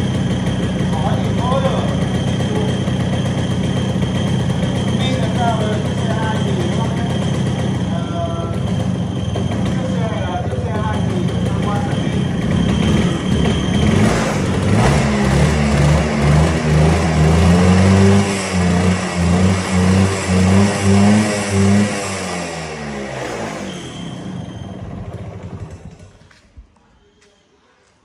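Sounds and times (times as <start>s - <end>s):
two-stroke motorcycle engine revving: 0.0s - 26.4s.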